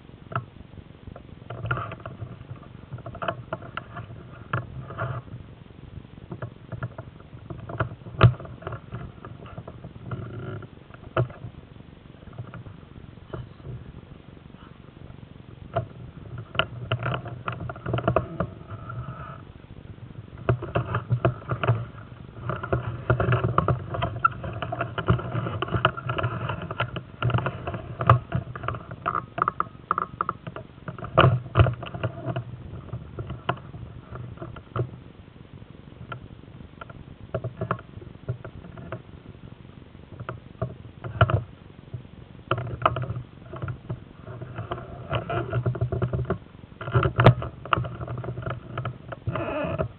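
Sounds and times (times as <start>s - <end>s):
microphone handling noise: 1.1s - 35.1s, 36.0s - 49.9s.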